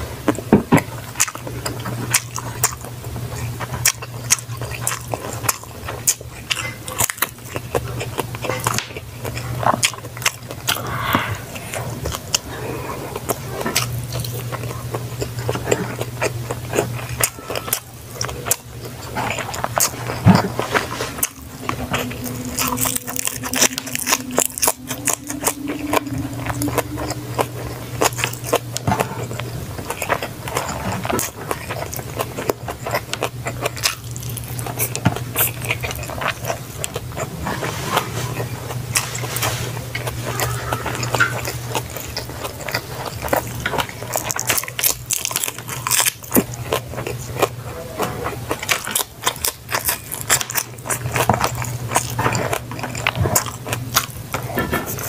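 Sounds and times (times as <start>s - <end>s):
person chewing food: 0.0s - 55.0s
steady low hum: 0.0s - 55.0s.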